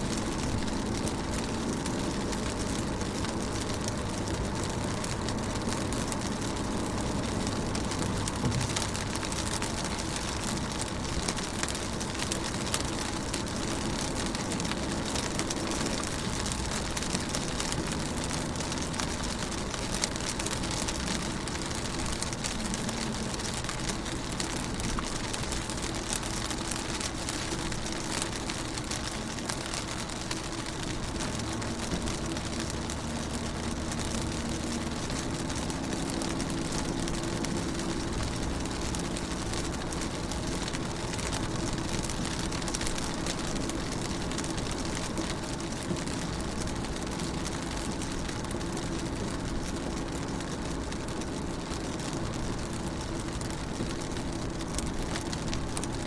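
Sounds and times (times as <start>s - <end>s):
rain on car roof: 0.0s - 56.0s.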